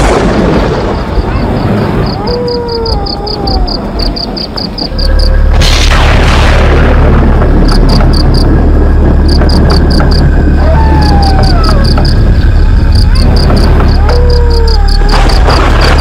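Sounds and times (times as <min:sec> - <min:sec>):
crickets chirping: 0:00.5 - 0:05.5, 0:07.4 - 0:16.0
loud low drone: 0:01.9 - 0:16.0.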